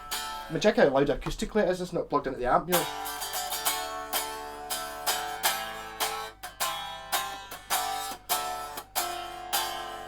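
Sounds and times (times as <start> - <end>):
unplugged electric guitar strumming chords: 0.0 - 1.2, 2.7 - 10.0.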